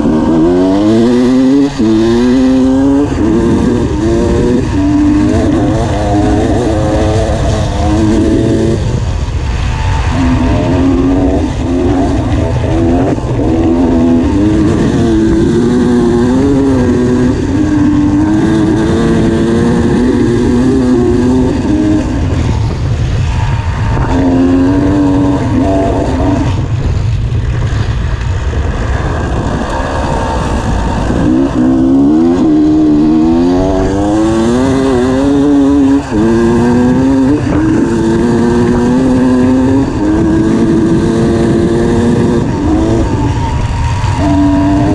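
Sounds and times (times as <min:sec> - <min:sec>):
low wind rumble on microphone: 0:00.0 - 0:44.9
motorcycle engine revving through gears: 0:00.0 - 0:44.9.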